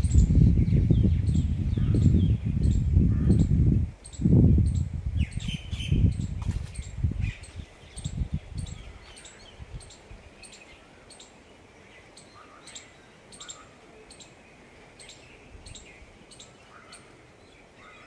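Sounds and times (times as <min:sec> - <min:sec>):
faint outdoor background noise: 0:00.0 - 0:18.0
small birds chirping: 0:00.0 - 0:18.0.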